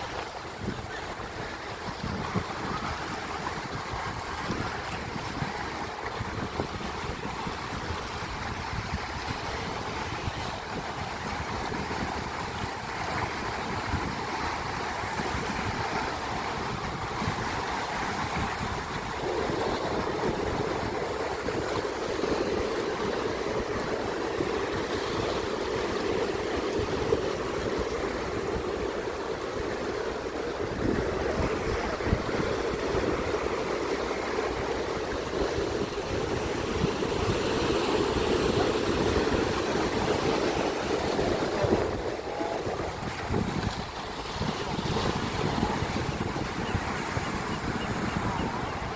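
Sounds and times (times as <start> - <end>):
ocean surf washing on rocks: 0.0 - 48.9.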